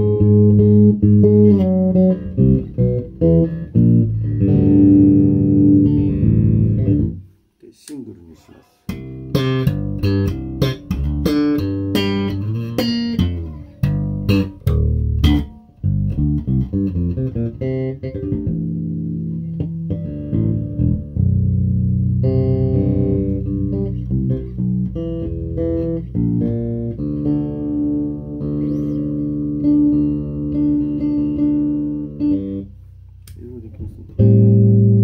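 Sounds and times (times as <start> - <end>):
electric bass playing: 0.0 - 7.3, 8.9 - 35.0.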